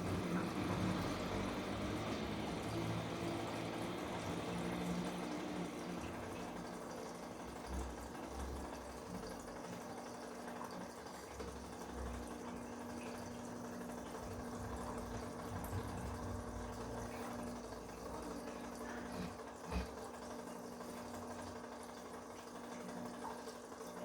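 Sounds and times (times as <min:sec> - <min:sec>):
washing machine hum: 0:00.0 - 0:24.0
water sloshing in washing machine: 0:00.0 - 0:24.0.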